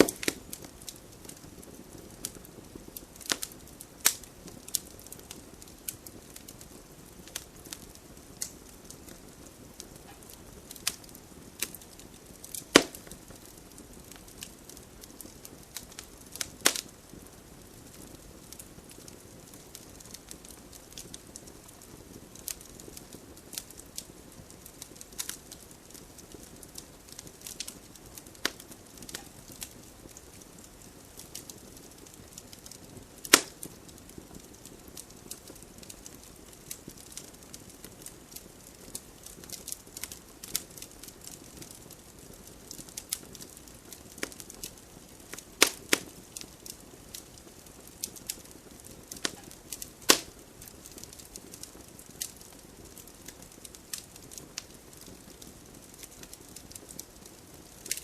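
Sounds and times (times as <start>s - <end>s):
campfire crackling and popping: 0.0s - 58.0s
soft steady hiss: 0.0s - 58.0s.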